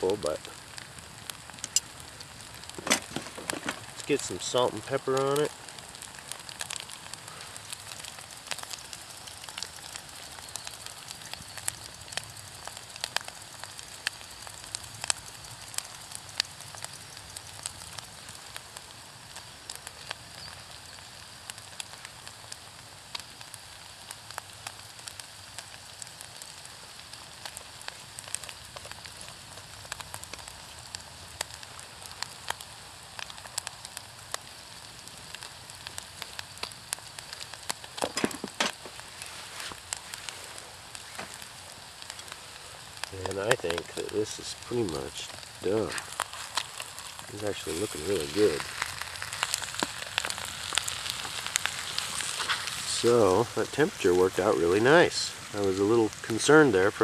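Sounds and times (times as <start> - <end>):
food sizzling in a pan: 0.0 - 57.0
wood fire crackling: 0.0 - 57.0.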